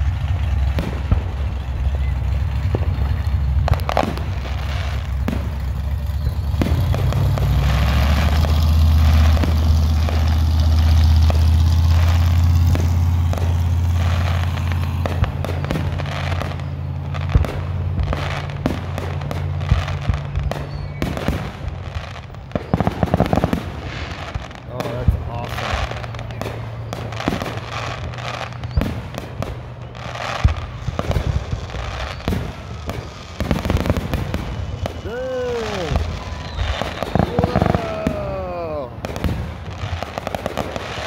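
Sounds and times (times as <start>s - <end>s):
fireworks bangs: 0.0s - 41.0s
fireworks bursting and crackling: 0.0s - 41.0s
vehicle engine idling hum: 0.0s - 41.0s.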